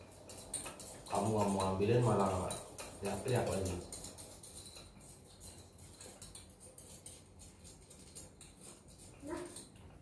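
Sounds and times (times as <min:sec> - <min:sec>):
metal machine clinking and rattling: 0:00.0 - 0:09.8.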